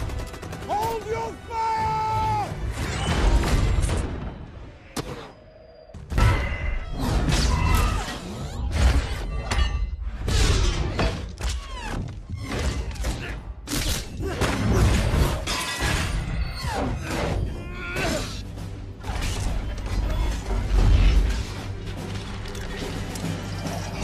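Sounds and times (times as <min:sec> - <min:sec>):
film score music: 0:00.0 - 0:24.0.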